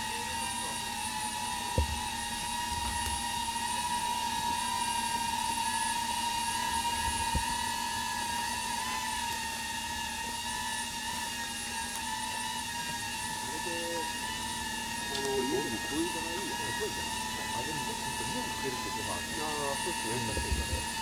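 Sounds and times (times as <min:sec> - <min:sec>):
electric winch motor whining: 0:00.0 - 0:21.0.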